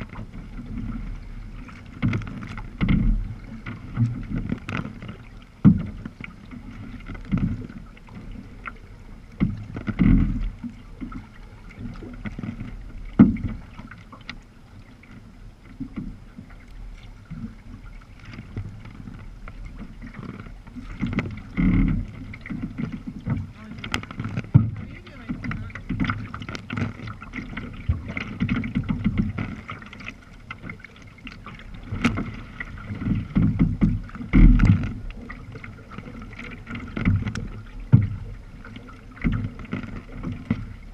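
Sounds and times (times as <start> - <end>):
paddle knocks: 0.0 - 40.9
water slapping against hull: 0.0 - 40.9.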